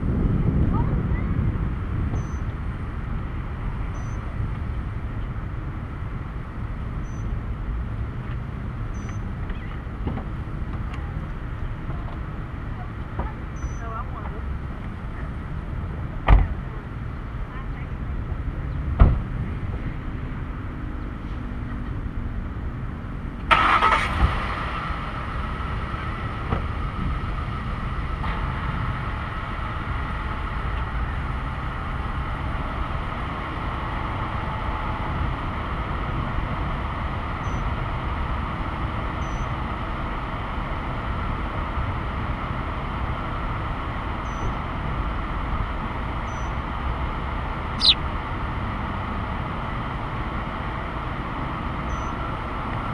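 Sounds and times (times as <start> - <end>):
low vehicle rumble: 0.0 - 52.9.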